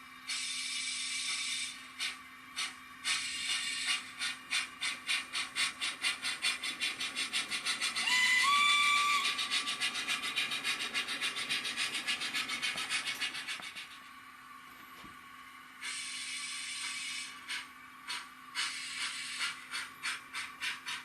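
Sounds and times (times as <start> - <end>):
steam chuffing from small speaker: 0.0 - 14.3, 15.7 - 21.0.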